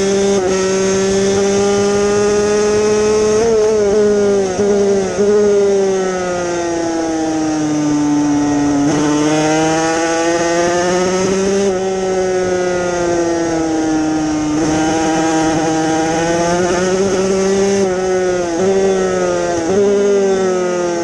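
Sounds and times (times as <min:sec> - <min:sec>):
two-stroke motorcycle engine racing: 0:00.0 - 0:21.0
wind noise: 0:00.0 - 0:21.0.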